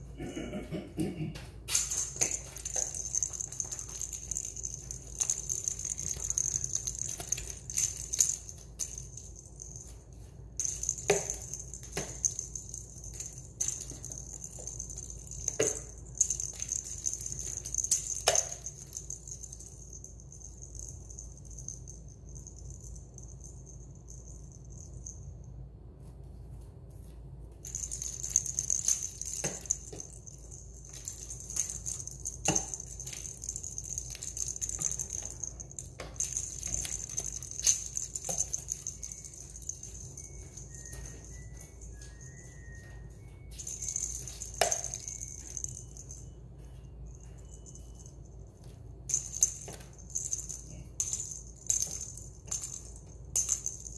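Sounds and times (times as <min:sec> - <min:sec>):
plastic toy ball rattling on tiles: 0:01.7 - 0:10.0, 0:10.6 - 0:25.1, 0:27.6 - 0:42.6, 0:43.5 - 0:46.2, 0:49.1 - 0:53.9.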